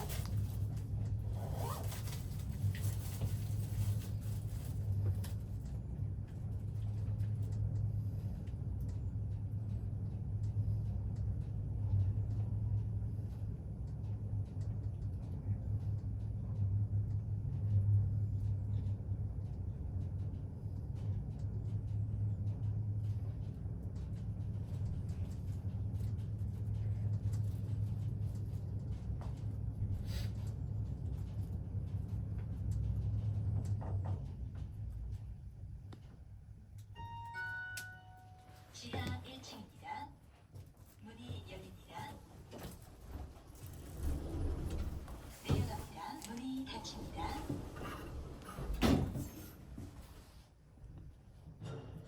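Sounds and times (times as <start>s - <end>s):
elevator hum and rumble: 0.0s - 52.0s.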